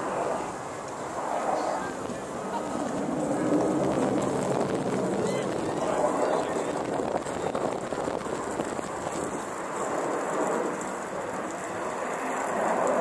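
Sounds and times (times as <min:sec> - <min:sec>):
jet engines roaring overhead: 0:00.0 - 0:13.0.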